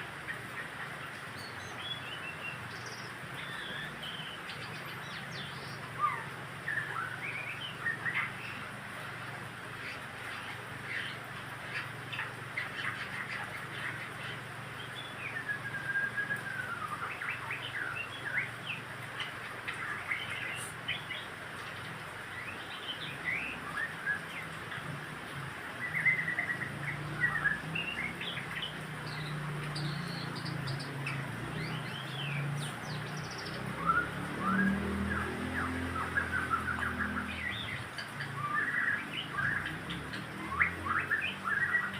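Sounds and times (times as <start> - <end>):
bird singing whistles and trills: 1.4 - 8.7, 10.9 - 21.3, 22.3 - 24.6, 25.7 - 41.9.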